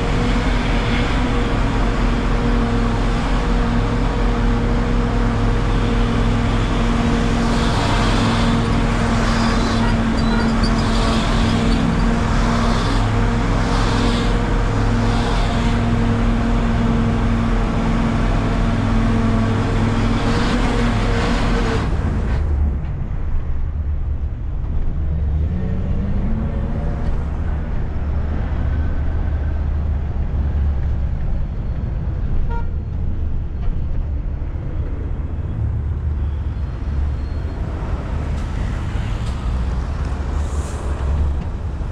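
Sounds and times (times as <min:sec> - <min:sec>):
minibus engine drone: 0:00.0 - 0:41.9
road and traffic hiss: 0:00.0 - 0:41.9.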